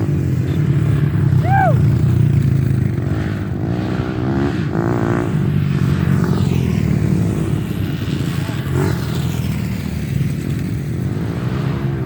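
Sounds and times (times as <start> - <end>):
motorcycle engine revving: 0.0 - 12.0
motorcycle engines running: 0.0 - 12.0.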